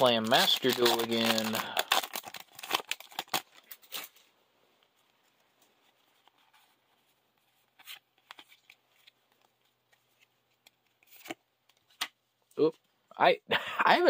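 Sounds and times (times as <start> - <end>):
trading cards rustling in hands: 0.0 - 12.7.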